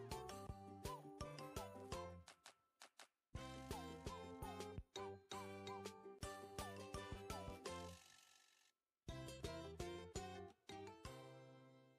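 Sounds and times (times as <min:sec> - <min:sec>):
playful children's tune: 0:00.0 - 0:02.5, 0:03.4 - 0:08.5, 0:09.1 - 0:11.9.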